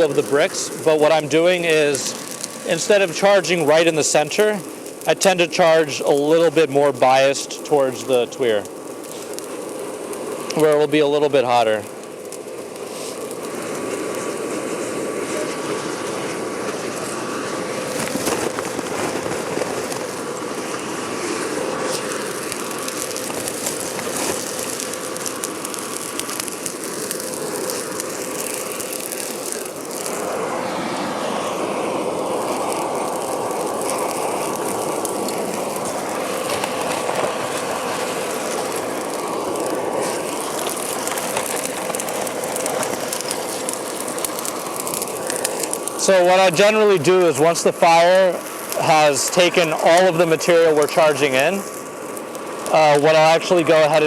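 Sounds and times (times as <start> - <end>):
air blower humming: 0.0 - 54.0
fire blast: 0.0 - 54.0.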